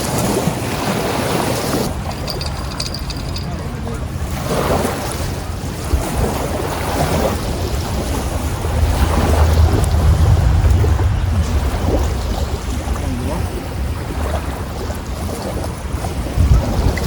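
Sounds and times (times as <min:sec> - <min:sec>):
moving water: 0:00.0 - 0:17.0
wind buffeting microphone: 0:00.0 - 0:17.0.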